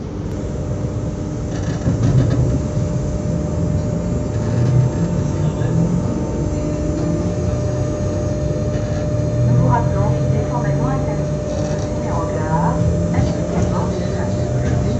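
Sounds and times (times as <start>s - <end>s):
train equipment humming: 0.0s - 14.9s.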